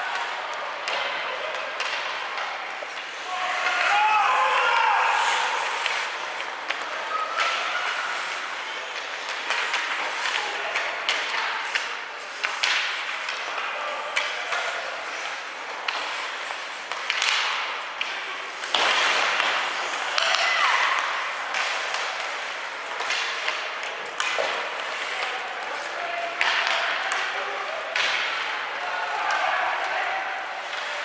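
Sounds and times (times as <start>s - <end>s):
hockey sticks and puck clacking: 0.0s - 31.0s
spectators' voices and shouts: 0.0s - 31.0s.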